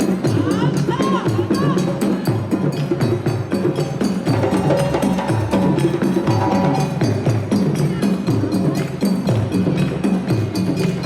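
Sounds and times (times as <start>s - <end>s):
drum ensemble playing: 0.0s - 11.0s
bell-like clicking percussion: 1.6s - 11.0s.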